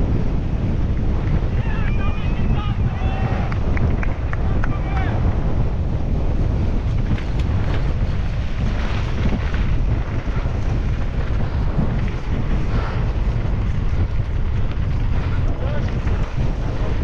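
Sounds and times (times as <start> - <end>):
mountain bike rumbling on rocky trail: 0.0 - 17.0
wind buffeting microphone: 0.0 - 17.0.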